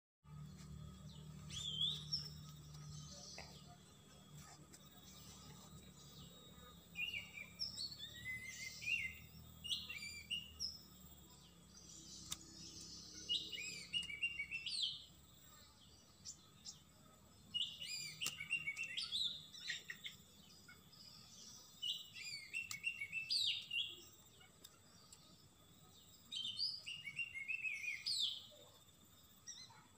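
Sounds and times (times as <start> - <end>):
songbird singing: 0.2 - 29.9.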